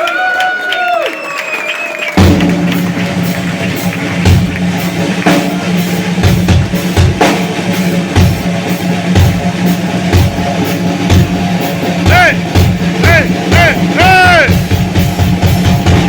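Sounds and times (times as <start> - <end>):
heavy metal band playing live: 2.2 - 16.0
kick drum and cymbal hits: 2.2 - 16.0
distorted guitar and bass chord: 2.8 - 16.0.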